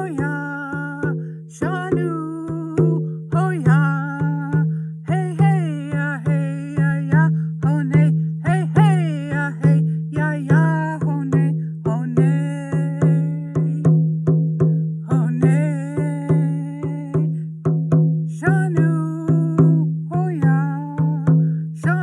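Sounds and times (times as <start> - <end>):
woman singing: 0.0 - 14.0, 14.8 - 17.5, 18.3 - 22.0
steady drumbeat: 0.0 - 22.0.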